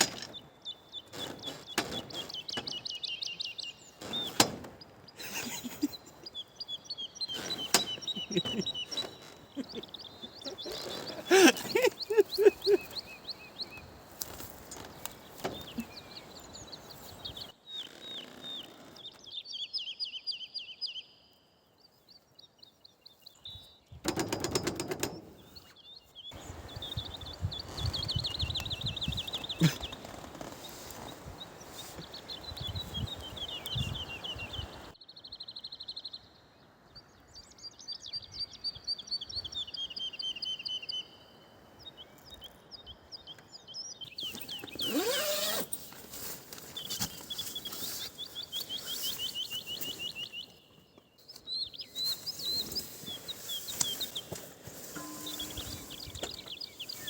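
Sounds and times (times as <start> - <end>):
songbirds trilling: 0.0 - 57.0.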